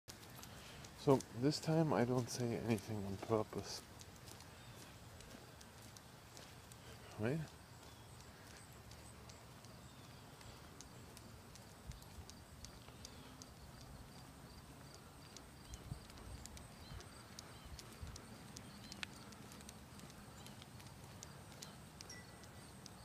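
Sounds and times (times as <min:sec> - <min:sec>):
footsteps on concrete: 0:00.1 - 0:23.0.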